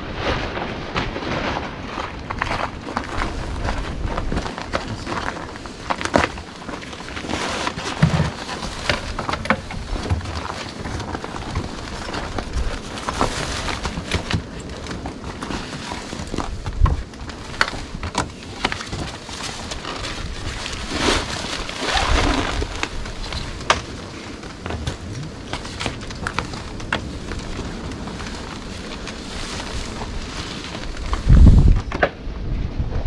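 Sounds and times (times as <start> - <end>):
tarpaulin rustling: 0.0 - 33.0.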